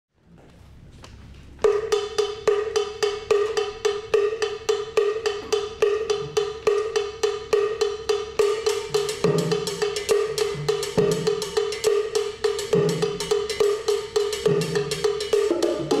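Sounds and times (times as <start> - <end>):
faint room noise: 0.1 - 16.0.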